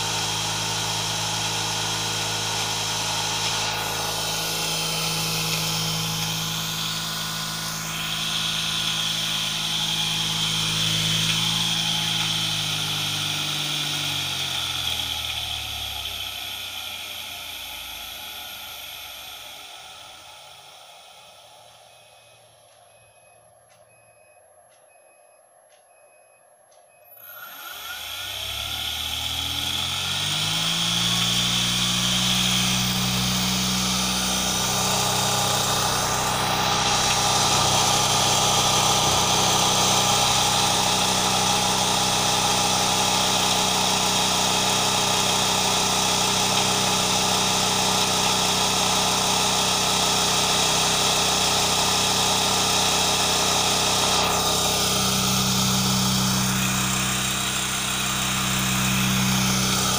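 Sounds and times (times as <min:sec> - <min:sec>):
cotton candy machine humming: 0:00.0 - 0:24.7, 0:26.5 - 0:59.9.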